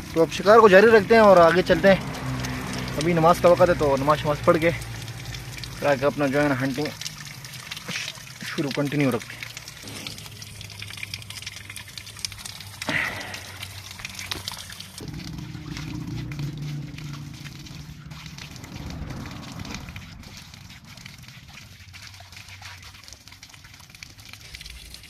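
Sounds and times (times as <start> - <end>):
water sloshing and trickling: 0.0 - 25.0.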